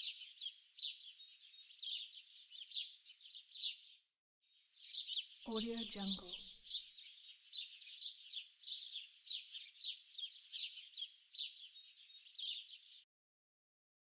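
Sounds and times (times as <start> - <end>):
small songbirds chirping: 0.0 - 13.1.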